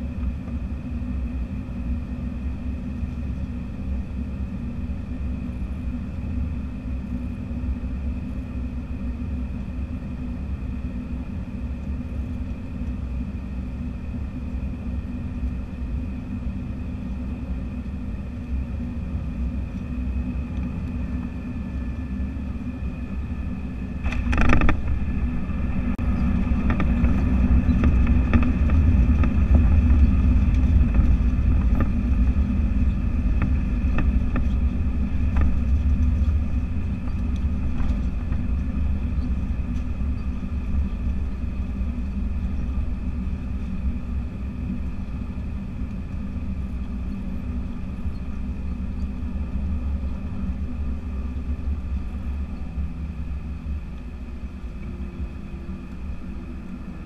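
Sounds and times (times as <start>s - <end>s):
jet engine drone: 0.0s - 57.0s
wheels rumbling on runway: 0.0s - 57.0s.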